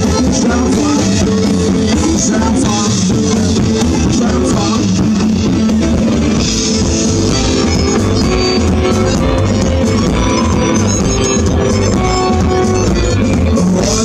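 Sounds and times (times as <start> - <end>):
live rock band: 0.0 - 14.0.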